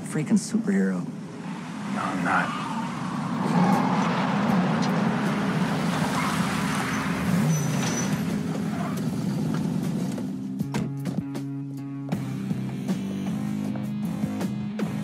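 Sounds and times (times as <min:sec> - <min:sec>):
cars approaching and pulling up: 0:00.0 - 0:15.0.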